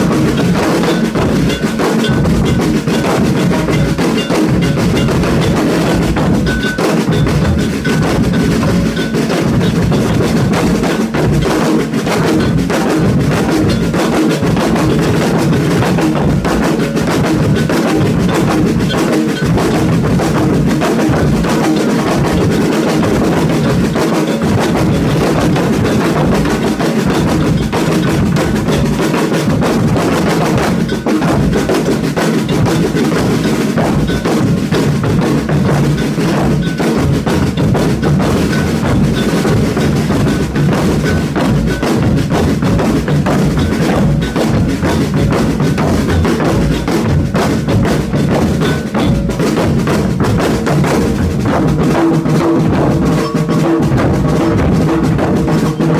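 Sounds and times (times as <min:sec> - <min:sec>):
drum ensemble playing: 0:00.0 - 0:55.9.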